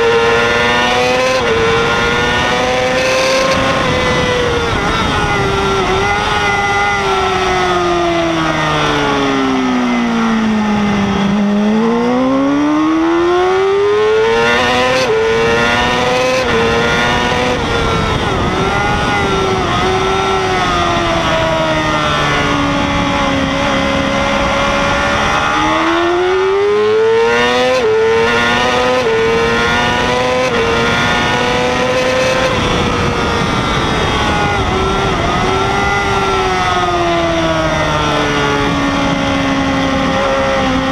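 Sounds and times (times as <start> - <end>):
sport bike engine revving: 0.0 - 40.9.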